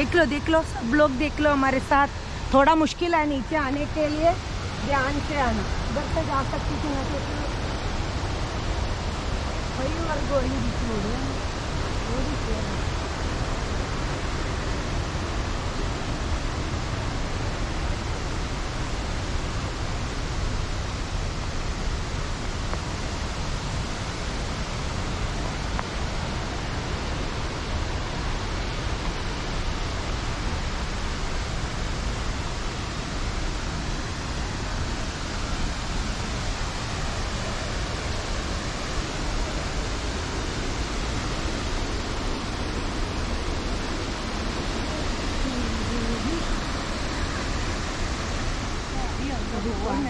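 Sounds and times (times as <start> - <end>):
waterfall rushing roar: 0.0 - 50.0.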